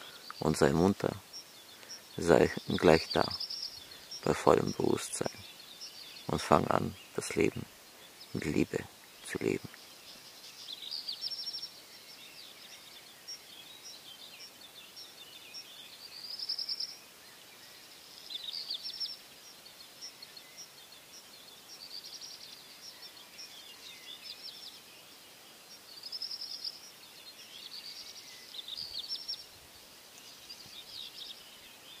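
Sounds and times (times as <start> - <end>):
faint steady background hiss: 0.0 - 32.0
songbirds chirping and trilling: 0.0 - 32.0.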